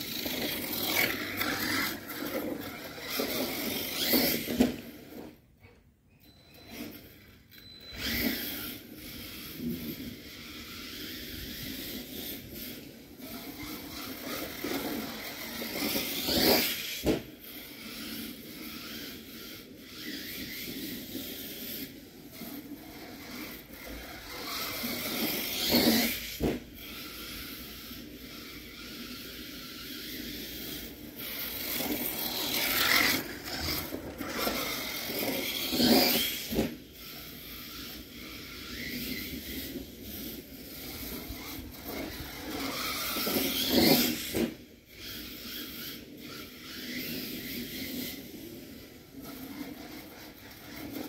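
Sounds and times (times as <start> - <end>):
rc truck motor surging: 0.0 - 5.7, 6.6 - 51.0.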